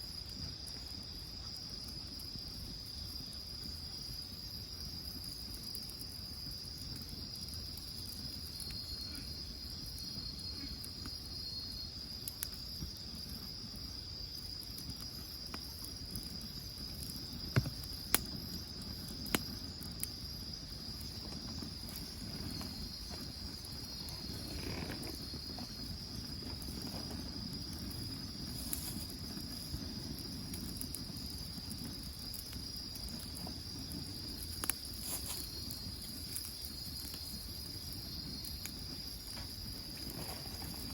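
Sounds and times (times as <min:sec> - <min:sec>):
crickets trilling: 0:00.0 - 0:40.9
wood fire popping: 0:00.0 - 0:40.9.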